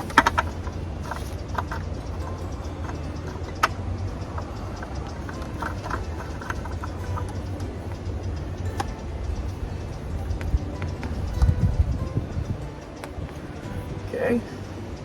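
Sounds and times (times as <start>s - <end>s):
hand tools clicking and clinking: 0.0s - 15.0s
low hum: 0.0s - 15.0s.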